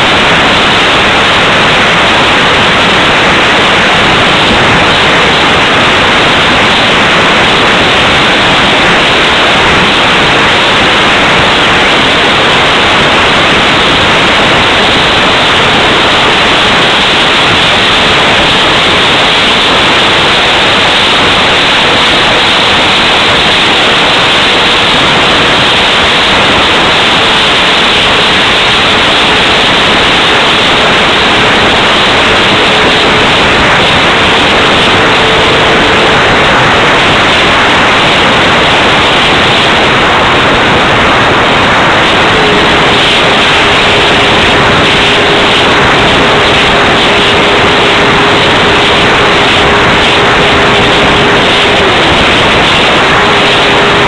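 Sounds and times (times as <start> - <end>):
faint steady hum: 0.0 - 54.0
strong wind on microphone: 0.0 - 54.0.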